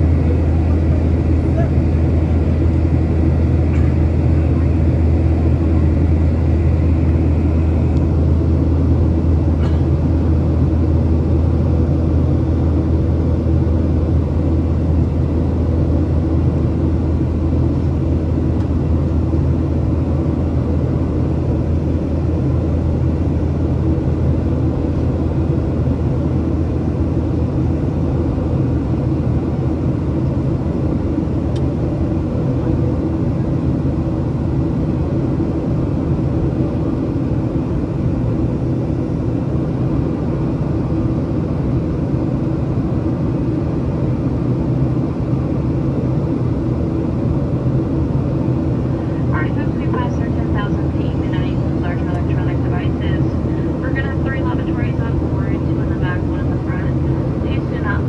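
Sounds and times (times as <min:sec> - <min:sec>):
jet engines droning in cabin: 0:00.0 - 0:58.0.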